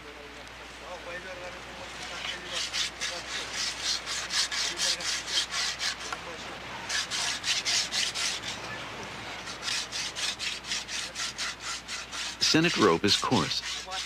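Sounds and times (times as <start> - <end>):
coconut fibres rasping: 0.8 - 14.0.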